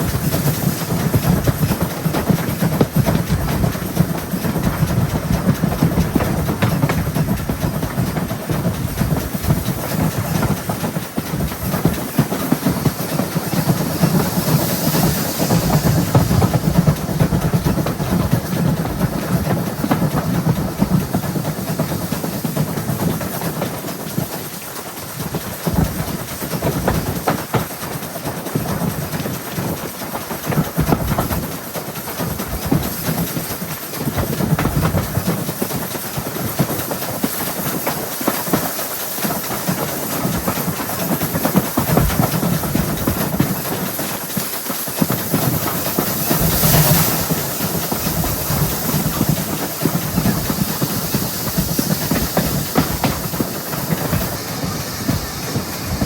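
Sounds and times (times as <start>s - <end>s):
hissing steam: 0.0s - 56.0s
steam locomotive rumble: 0.0s - 56.0s
wheels clattering on rail joints: 0.0s - 56.0s.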